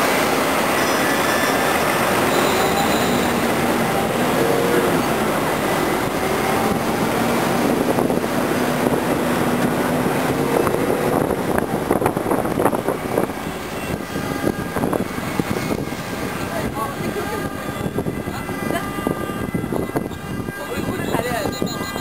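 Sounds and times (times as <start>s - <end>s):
bus low tone: 0.0s - 22.0s
heavy traffic rumble: 0.0s - 22.0s
wind on microphone: 0.0s - 22.0s.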